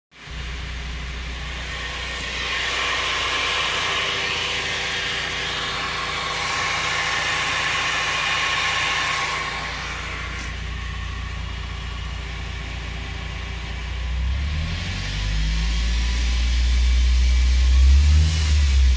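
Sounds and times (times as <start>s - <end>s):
car engine low hum: 0.1s - 18.9s.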